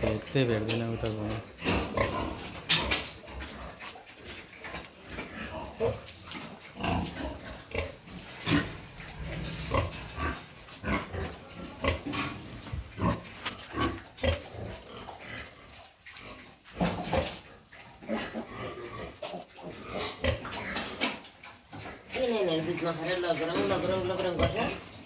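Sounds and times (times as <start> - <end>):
pigs grunting and squealing: 0.0 - 25.0.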